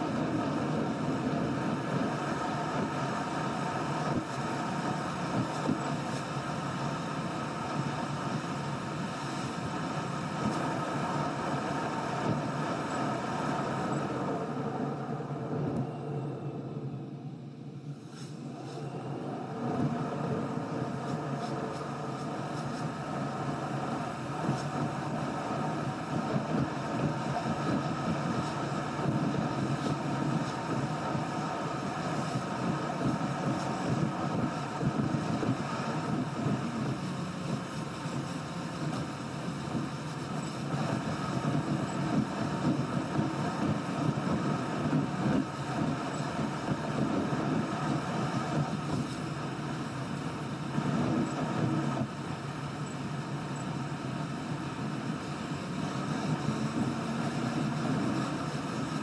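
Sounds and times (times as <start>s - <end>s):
road and engine noise in car: 0.0s - 59.0s.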